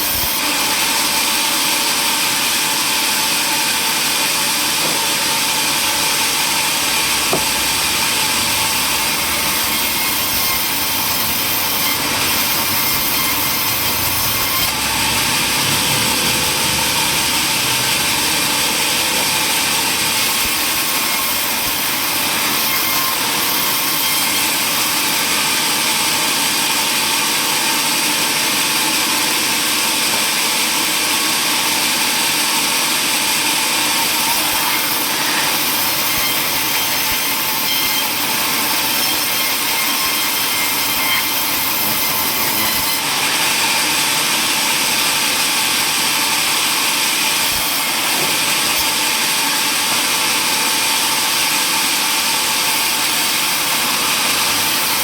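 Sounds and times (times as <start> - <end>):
power saw cutting wood: 0.0 - 55.0.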